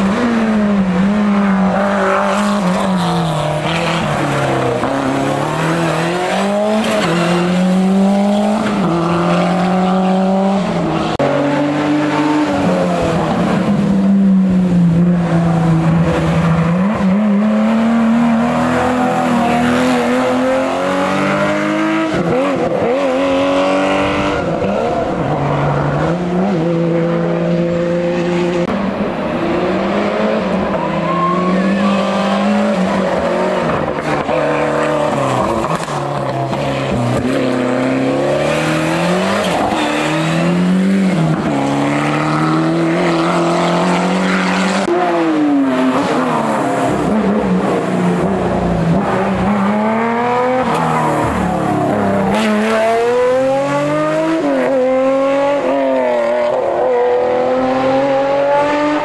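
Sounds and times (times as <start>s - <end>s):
rally car engines at full throttle: 0.0s - 59.0s.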